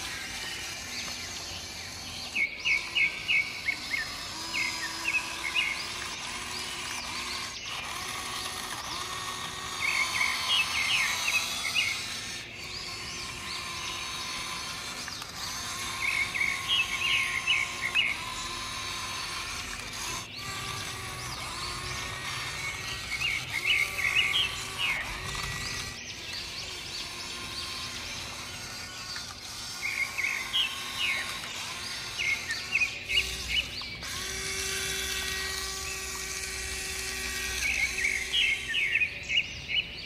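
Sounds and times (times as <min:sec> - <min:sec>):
outdoor background noise: 0:00.0 - 0:40.0
songbird chirping: 0:00.0 - 0:40.0.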